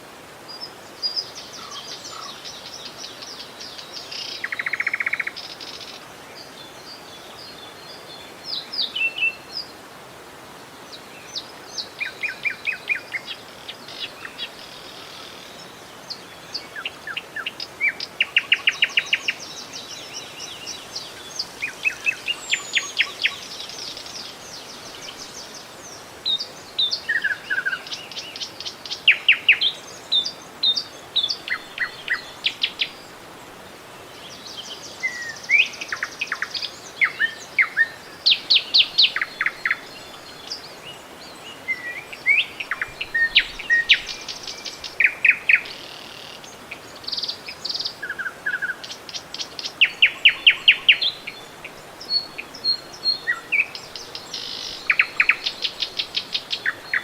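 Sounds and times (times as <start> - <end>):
river water murmur: 0.0 - 57.0
songbirds chirping and trilling: 10.6 - 57.0.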